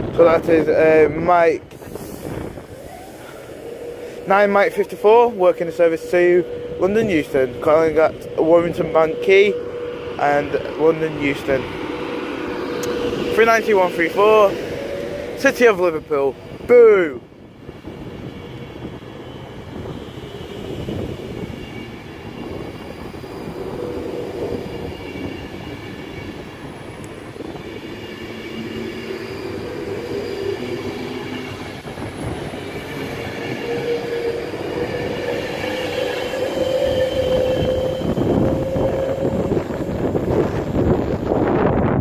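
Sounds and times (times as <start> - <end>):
train traction motors whining: 0.0 - 42.0
wheels rumbling on rail: 0.0 - 42.0.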